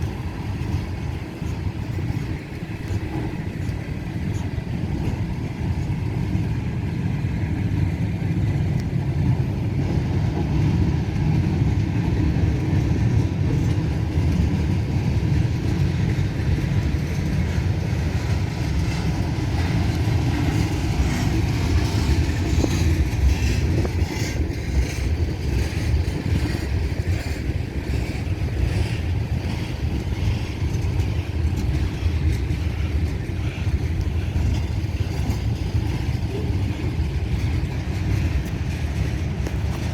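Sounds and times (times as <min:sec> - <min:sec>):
freight train rumbling past: 0:00.0 - 0:39.9
train wheels clicking: 0:00.0 - 0:39.9.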